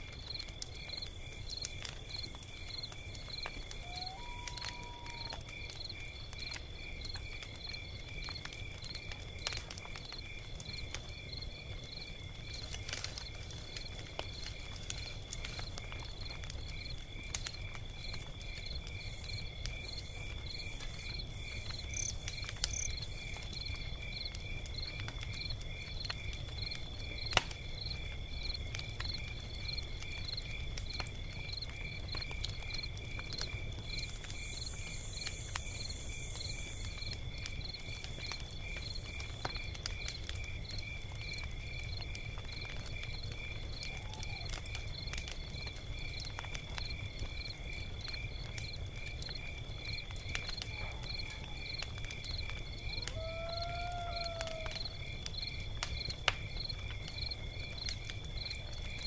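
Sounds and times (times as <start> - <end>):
log fire crackling and popping: 0.0 - 59.0
crickets chirping: 0.1 - 59.0.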